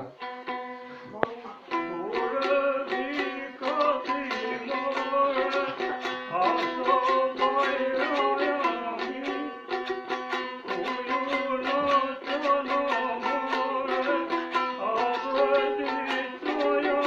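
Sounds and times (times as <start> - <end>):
plucked folk lute melody: 0.0 - 17.0.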